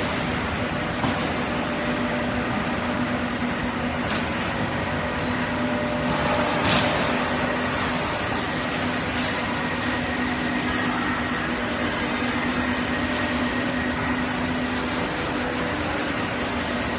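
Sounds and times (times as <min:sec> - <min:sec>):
constant low hum: 0:00.0 - 0:16.9
factory machinery drone: 0:00.0 - 0:16.9.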